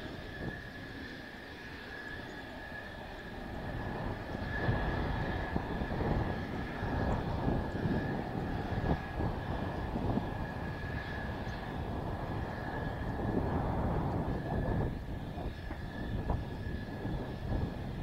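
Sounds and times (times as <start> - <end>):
wind buffeting microphone: 0.0 - 1.0, 1.9 - 18.0
jet engine whine and rumble: 0.0 - 18.0.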